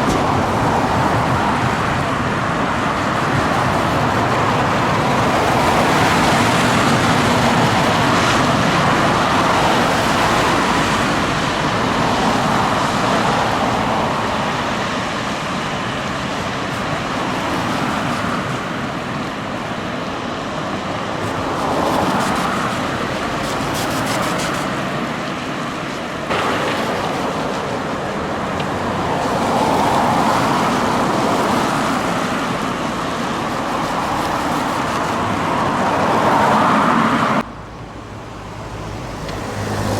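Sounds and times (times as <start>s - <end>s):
passing vehicles rushing: 0.0s - 39.9s.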